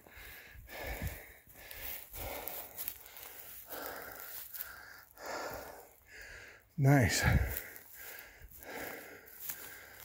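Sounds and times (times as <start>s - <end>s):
person breathing heavily: 0.0s - 10.0s.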